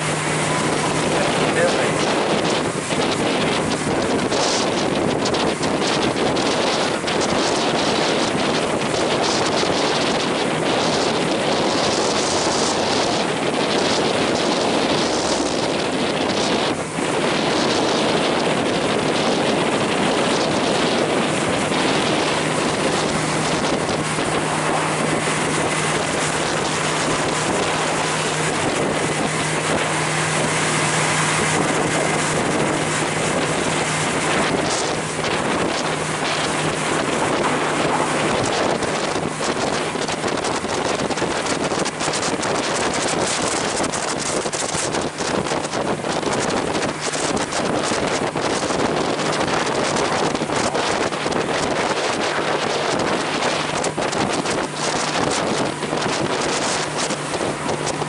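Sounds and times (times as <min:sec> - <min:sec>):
low engine hum: 0:00.0 - 0:58.0
water rushing past boat: 0:00.0 - 0:58.0
wind buffeting microphone: 0:00.0 - 0:58.0.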